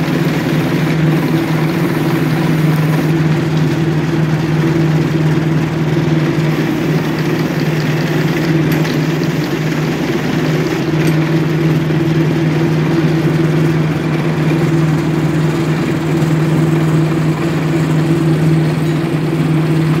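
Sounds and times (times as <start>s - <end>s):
machine rollers humming: 0.0s - 20.0s.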